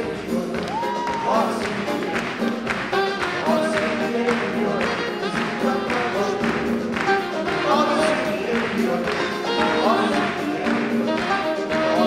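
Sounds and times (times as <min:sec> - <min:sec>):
live band music: 0:00.0 - 0:12.0.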